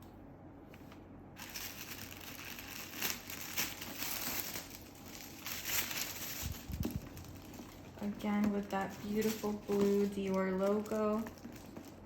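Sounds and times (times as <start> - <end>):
paper wrapping crinkling: 1.4 - 12.0
sharp paper crackles: 1.4 - 12.0.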